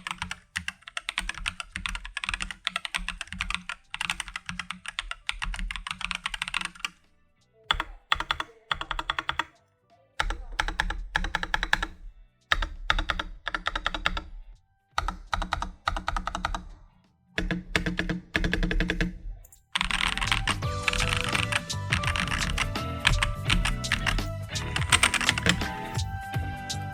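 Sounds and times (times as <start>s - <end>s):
mechanical keyboard keys clacking: 0.0s - 7.0s, 7.7s - 9.5s, 10.2s - 14.3s, 15.0s - 16.8s, 17.4s - 26.0s.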